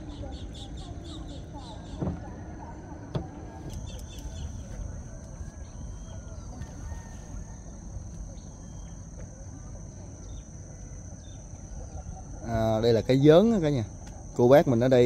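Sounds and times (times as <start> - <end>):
faint bird chirps: 0.0 - 3.0, 3.6 - 12.8
insects trilling: 0.0 - 15.0.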